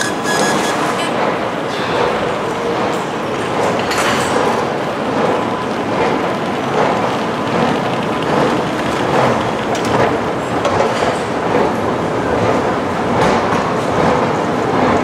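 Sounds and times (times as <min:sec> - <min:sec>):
metro station din: 0:00.0 - 0:15.0.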